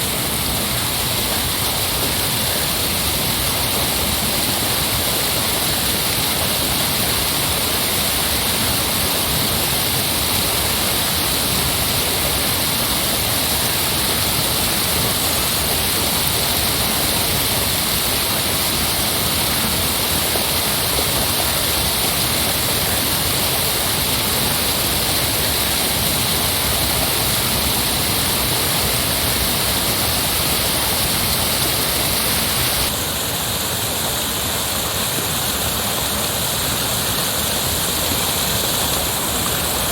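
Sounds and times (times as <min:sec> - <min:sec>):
heavy flowing water rushing: 0:00.0 - 0:39.9.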